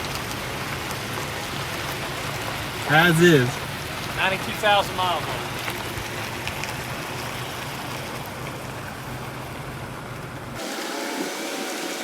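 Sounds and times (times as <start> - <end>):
vehicle engine humming: 0.0 - 10.7.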